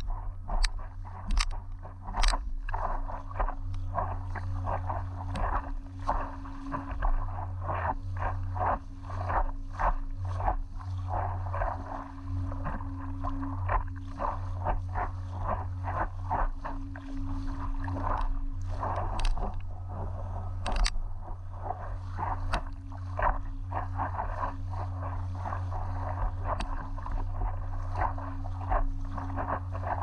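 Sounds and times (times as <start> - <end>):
steady low rumble: 0.0 - 30.0
water slapping against paddleboard: 0.0 - 30.0.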